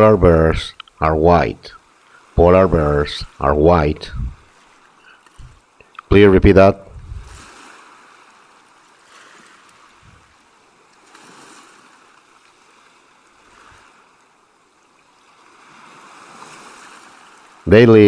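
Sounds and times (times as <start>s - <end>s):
faint rushing water-like noise: 0.0s - 18.0s.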